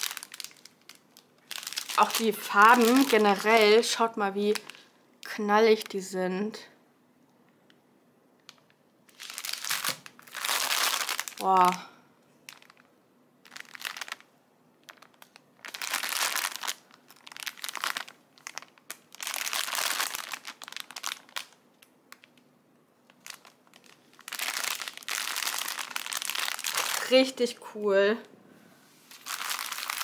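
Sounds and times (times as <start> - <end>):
plastic packaging crinkling: 0.0 - 6.0, 8.5 - 11.8, 12.4 - 27.6, 29.0 - 30.0.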